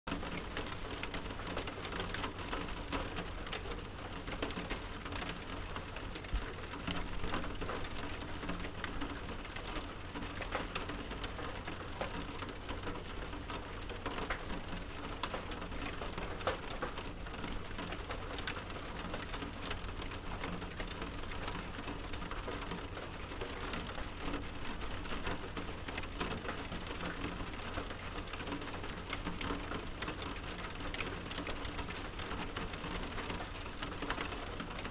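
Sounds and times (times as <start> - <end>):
rain pattering on glass: 0.1 - 34.9.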